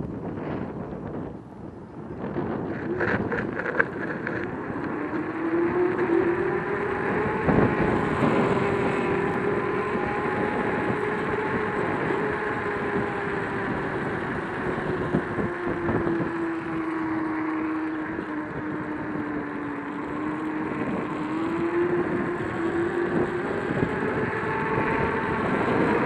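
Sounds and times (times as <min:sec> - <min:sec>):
wind on microphone: 0:00.0 - 0:26.0
electric motor whine: 0:00.1 - 0:26.0.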